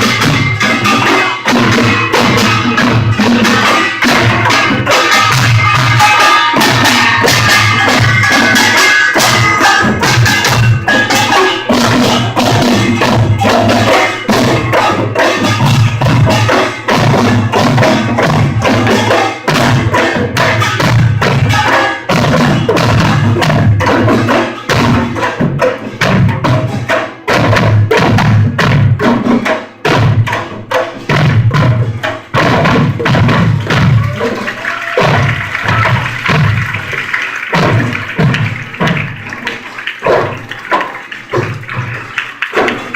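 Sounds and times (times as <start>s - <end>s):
percussion band drums and gongs: 0.0s - 42.9s.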